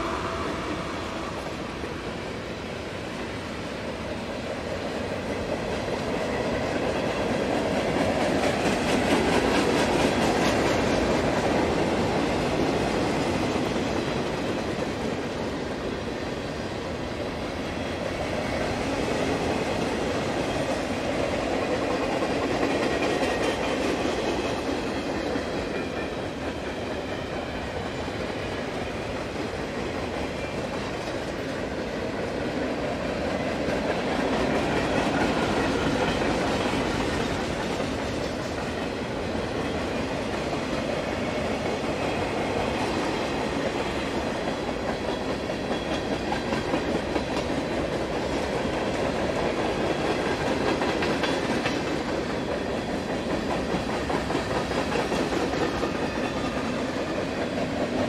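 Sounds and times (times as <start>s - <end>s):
train wheels clattering on track: 0.0s - 58.0s.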